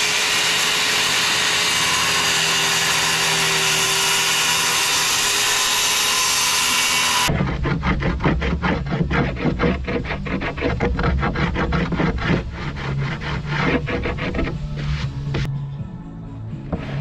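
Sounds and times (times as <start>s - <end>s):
rasping strokes on wood: 0.0s - 15.5s.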